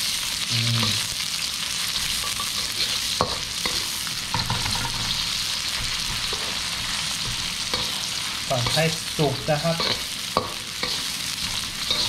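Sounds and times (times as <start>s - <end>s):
shallots sizzling in oil: 0.0s - 12.0s
metal spatula scraping wok: 1.8s - 12.0s.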